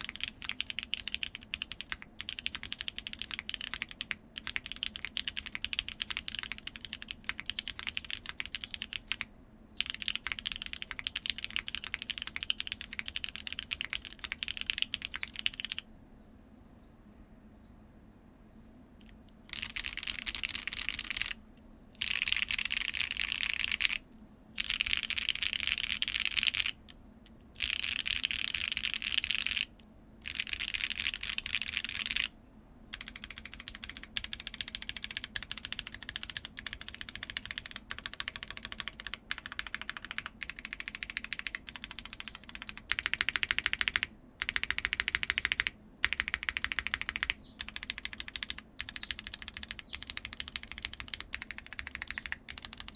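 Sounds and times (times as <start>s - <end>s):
mechanical keyboard typing: 0.0s - 15.8s, 19.5s - 21.4s, 22.0s - 24.0s, 24.6s - 26.9s, 27.6s - 32.3s, 32.9s - 52.9s.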